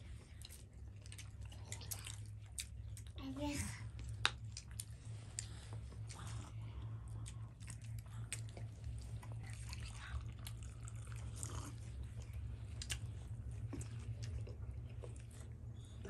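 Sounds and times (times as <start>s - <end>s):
people chewing and biting: 0.0s - 3.2s, 3.8s - 16.0s
steady low hum: 0.0s - 16.0s.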